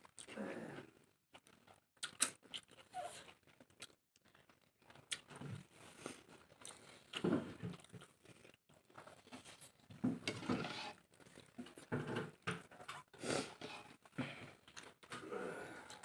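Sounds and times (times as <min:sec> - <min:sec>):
person chewing and crunching food: 0:01.3 - 0:16.0.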